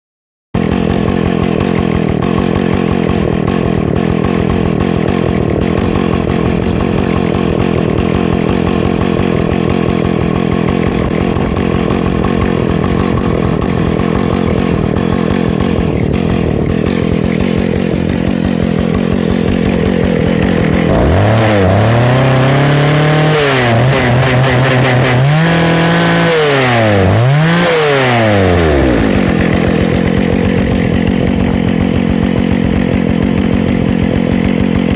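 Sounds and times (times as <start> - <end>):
chainsaw idling and revving: 0.6 - 34.9.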